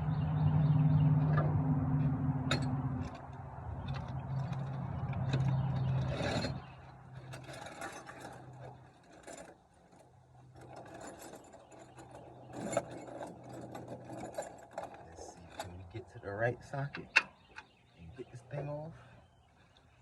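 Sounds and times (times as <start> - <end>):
metal tools clinking and scraping: 2.4 - 18.5.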